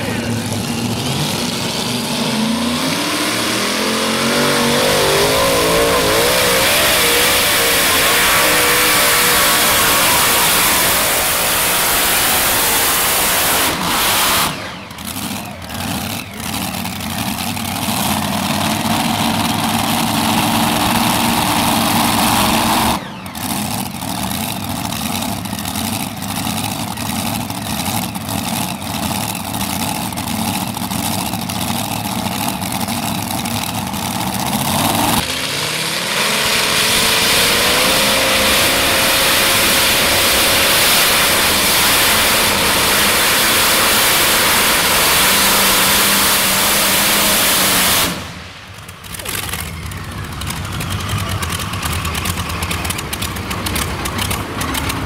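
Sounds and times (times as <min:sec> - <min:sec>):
engines idling: 0:00.0 - 0:55.0
tractor engines at full throttle: 0:00.0 - 0:55.0.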